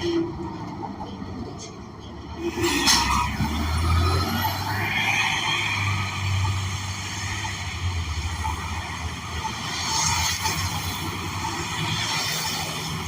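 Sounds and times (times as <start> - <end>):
bus engine rumbling: 0.0 - 13.0
road noise hiss: 2.4 - 13.0.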